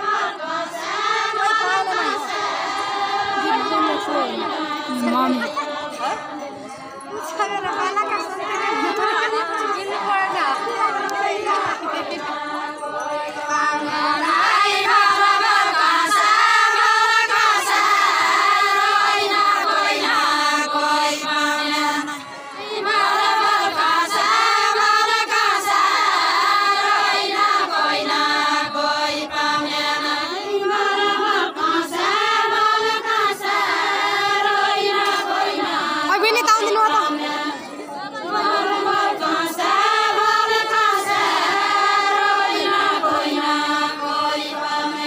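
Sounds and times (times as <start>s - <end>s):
women singing unaccompanied: 0.0s - 45.0s.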